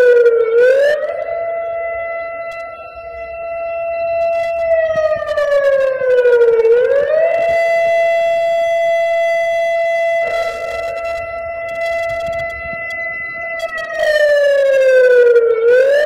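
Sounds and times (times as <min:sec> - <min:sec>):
emergency alert alarm tone: 0:00.0 - 0:16.0.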